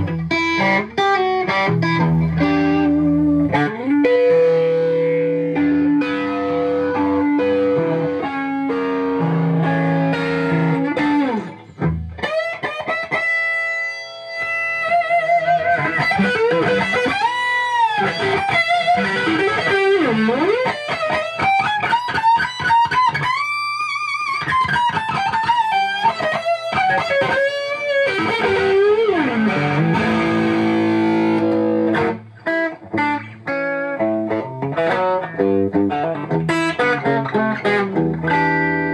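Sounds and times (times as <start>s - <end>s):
overdriven electric guitar: 0.0s - 38.9s.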